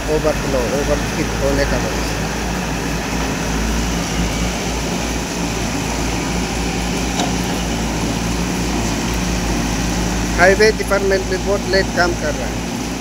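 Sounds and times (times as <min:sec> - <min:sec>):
constant rushing noise: 0:00.0 - 0:13.0
diesel engines running: 0:00.0 - 0:13.0.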